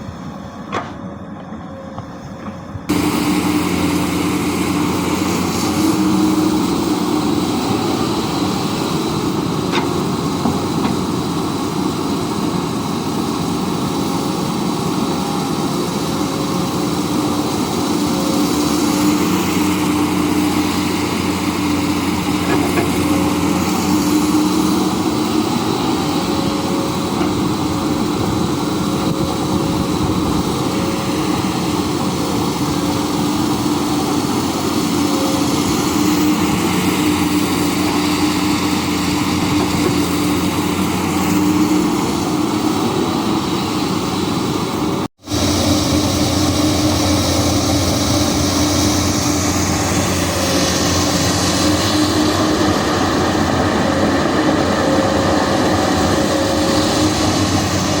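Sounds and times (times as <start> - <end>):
excavator diesel engine droning: 0.0 - 58.0.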